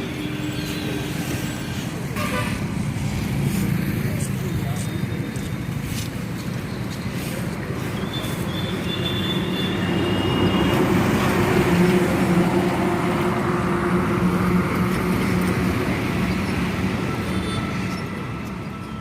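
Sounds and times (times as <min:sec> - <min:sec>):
heavy truck engine and tyres: 0:00.0 - 0:19.0.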